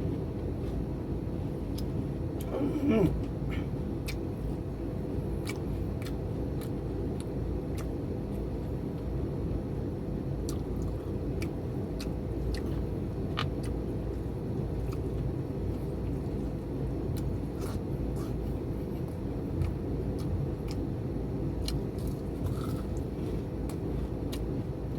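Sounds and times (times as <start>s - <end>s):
low background rumble: 0.0s - 24.9s
person chewing food: 1.6s - 8.9s, 10.4s - 24.9s.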